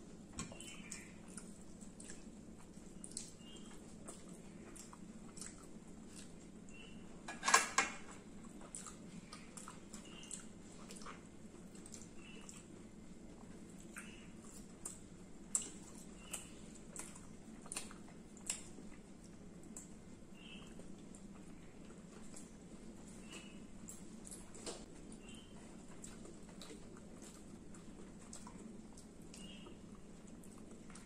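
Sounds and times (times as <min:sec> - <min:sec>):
soft chewing: 0:00.0 - 0:07.4, 0:08.0 - 0:31.0
steady low hum: 0:00.0 - 0:31.0.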